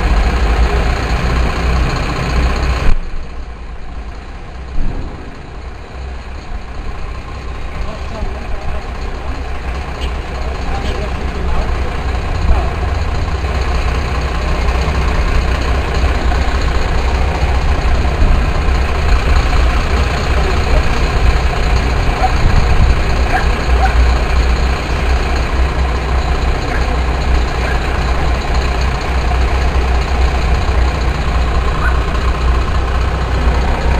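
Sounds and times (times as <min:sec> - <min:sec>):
diesel engines idling: 0:00.0 - 0:33.9.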